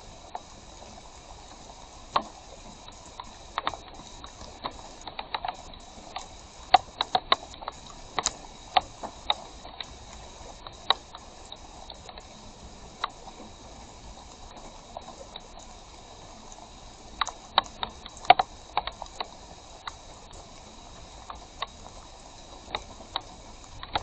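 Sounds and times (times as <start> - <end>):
heavy rain hissing: 0.0 - 24.0.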